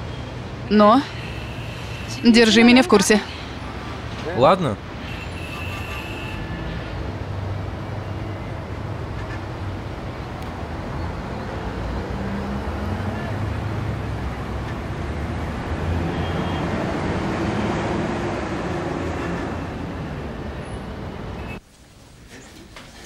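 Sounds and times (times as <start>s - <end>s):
passing cars on city street: 0.0s - 23.0s.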